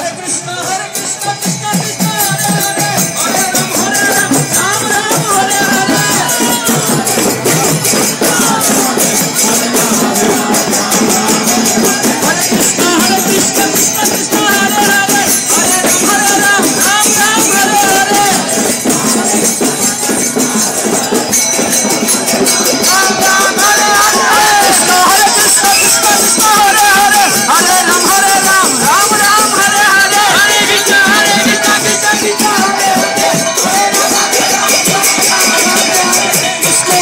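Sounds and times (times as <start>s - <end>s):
amplified devotional singing: 0.0s - 37.0s
hand cymbals clashing: 0.0s - 37.0s
group of voices chanting: 2.1s - 37.0s.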